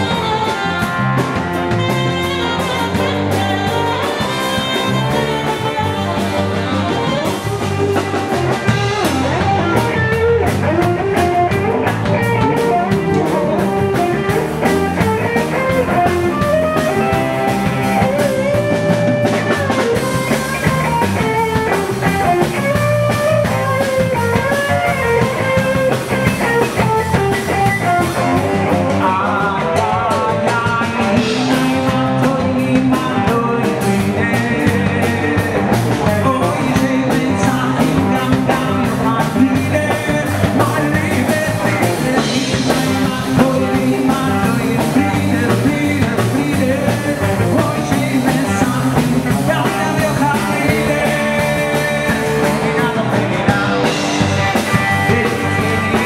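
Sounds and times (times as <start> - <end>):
drum kit: 0.0 - 56.0
electric guitar playing: 0.0 - 56.0
man singing: 0.0 - 56.0.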